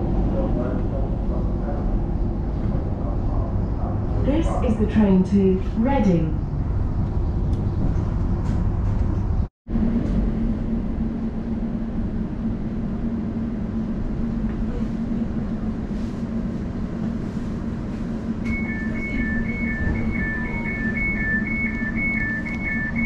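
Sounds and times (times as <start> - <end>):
train rumble from inside carriage: 0.0 - 23.0.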